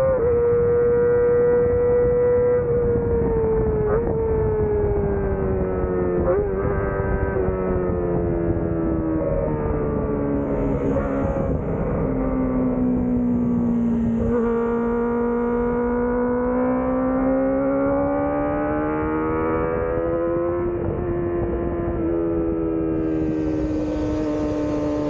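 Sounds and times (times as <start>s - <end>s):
motorcycle engine revving: 0.0s - 25.0s
wind noise: 0.0s - 25.0s.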